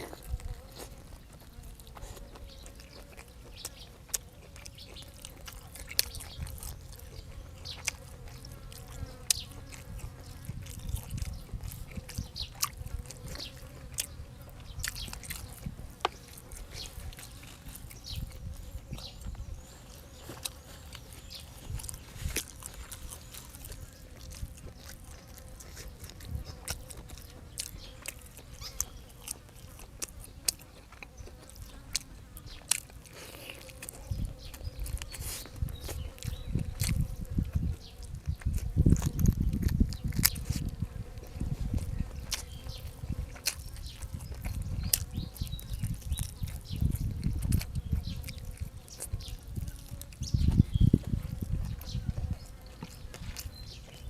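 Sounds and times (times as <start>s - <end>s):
crunching food: 0.0s - 54.0s
wet chewing mouth sounds: 0.0s - 54.0s.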